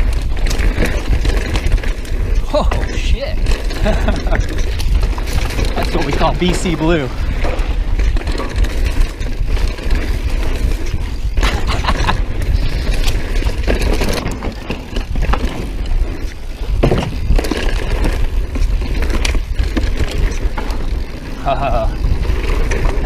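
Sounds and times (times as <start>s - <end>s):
bike rattling over bumps: 0.0s - 23.0s
tyres crunching over dirt: 0.0s - 23.0s
wind rumble on microphone: 0.0s - 23.0s.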